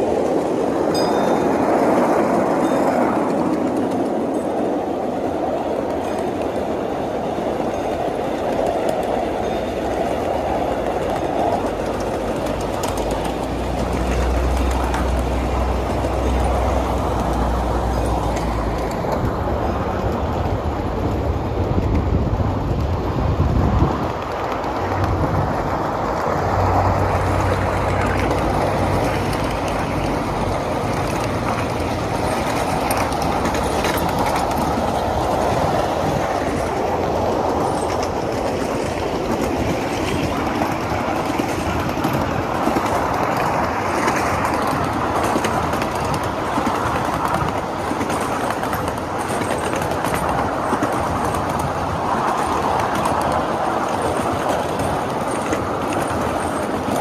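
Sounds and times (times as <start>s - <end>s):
small train wheels rumbling on rails: 0.0s - 57.0s.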